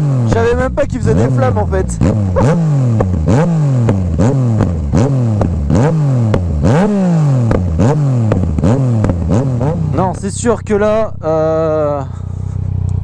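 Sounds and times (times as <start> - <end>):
exhaust popping: 0.0 - 13.0
motorcycle engine revving: 0.0 - 13.0.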